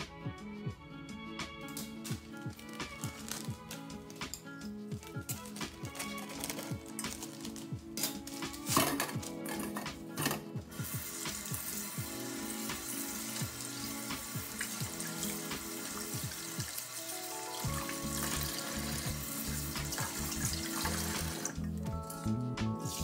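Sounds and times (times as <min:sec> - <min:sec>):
background music with steady beat: 0:00.0 - 0:23.0.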